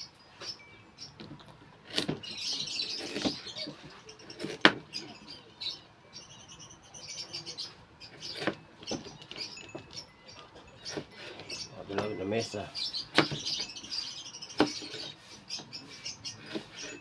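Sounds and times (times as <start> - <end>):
lovebirds chirping: 0.0 - 17.0.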